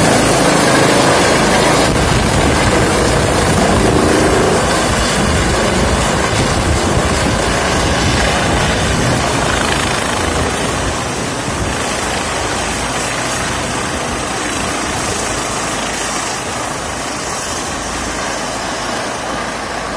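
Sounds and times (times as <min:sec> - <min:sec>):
helicopter flying overhead: 0:00.0 - 0:19.9.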